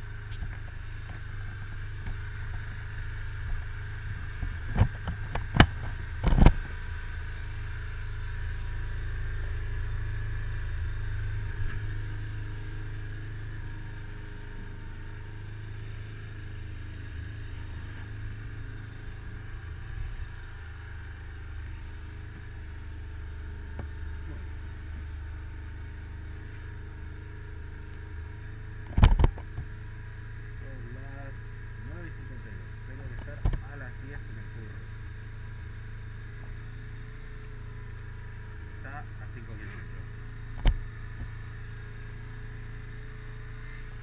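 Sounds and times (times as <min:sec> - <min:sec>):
small motorcycle engine running: 0:00.0 - 0:44.0.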